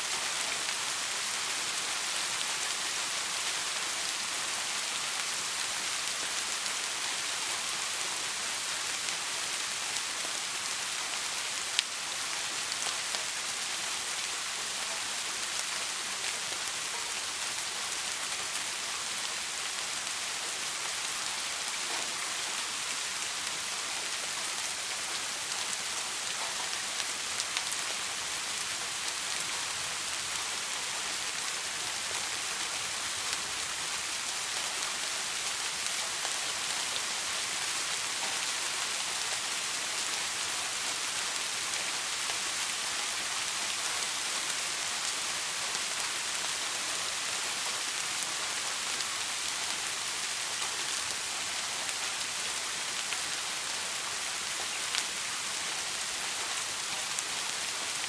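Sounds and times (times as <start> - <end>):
raindrops pattering: 0.0 - 58.0
soft rain hiss: 0.0 - 58.0.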